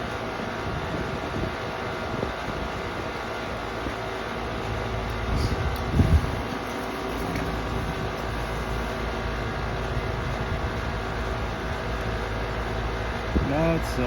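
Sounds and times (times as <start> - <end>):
air conditioner hum: 0.0 - 14.0.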